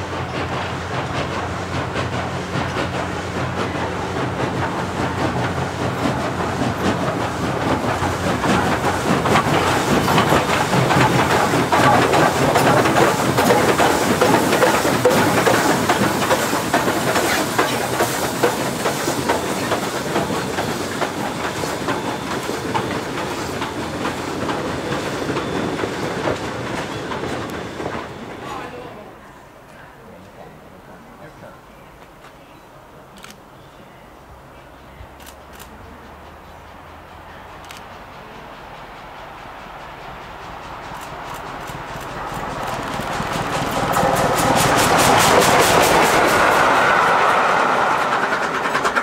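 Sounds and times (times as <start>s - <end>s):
train wheels clattering over rail joints: 0.0s - 28.2s, 35.2s - 49.0s.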